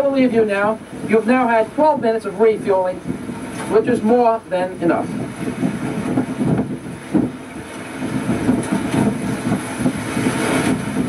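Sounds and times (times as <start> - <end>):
rough sea rumbling: 0.0 - 11.0
wind buffeting microphone: 0.0 - 11.0.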